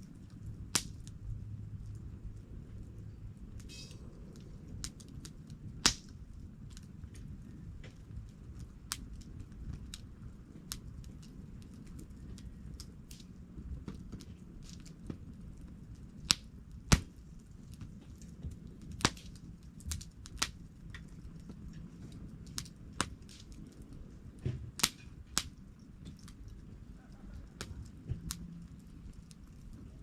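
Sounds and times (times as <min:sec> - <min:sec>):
campfire crackling: 0:00.0 - 0:30.0
fire popping: 0:00.0 - 0:30.0
low steady rumble: 0:00.0 - 0:30.0.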